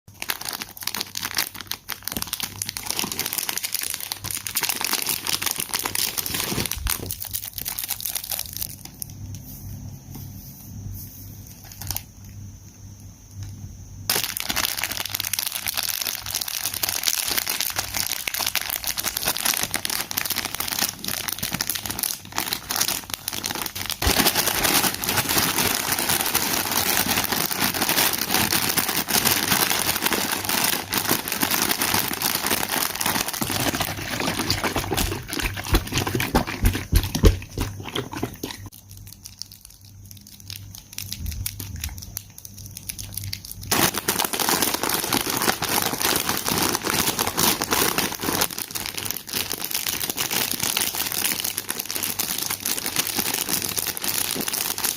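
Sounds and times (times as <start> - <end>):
food crunching and crinkling: 0.1 - 9.3, 11.5 - 12.4, 14.1 - 54.9.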